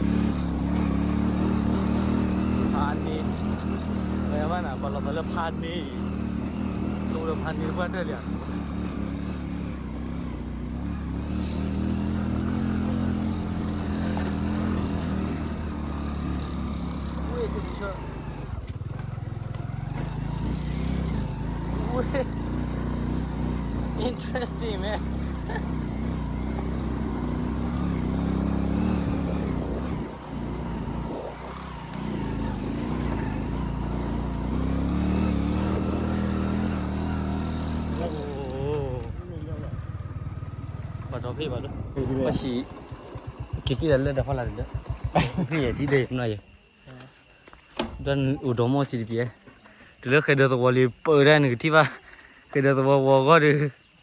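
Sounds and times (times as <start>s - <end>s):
motorcycle engine running: 0.0s - 46.7s.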